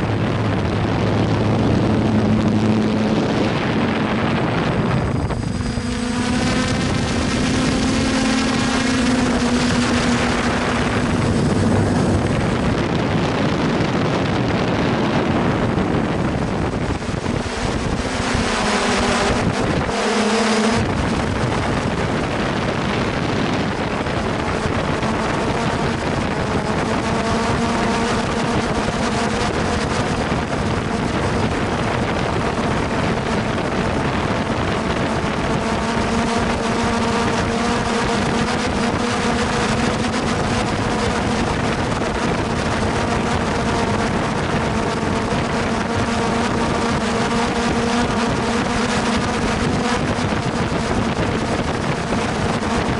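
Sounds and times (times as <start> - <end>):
drone propellers humming: 0.0 - 52.9
wind on microphone: 0.0 - 52.9.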